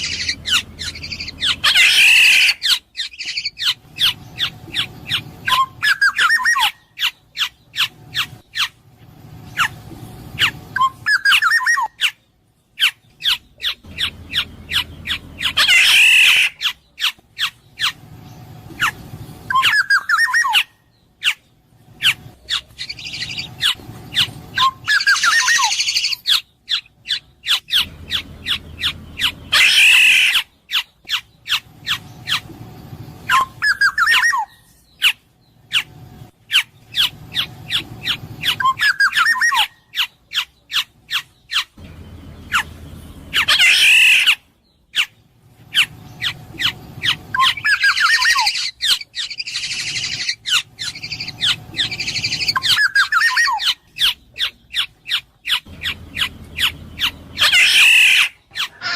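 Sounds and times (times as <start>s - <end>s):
bird harsh scratchy squawks: 0.0s - 8.8s, 9.5s - 9.8s, 10.4s - 12.2s, 12.8s - 18.0s, 18.7s - 32.5s, 33.2s - 41.8s, 42.5s - 58.9s.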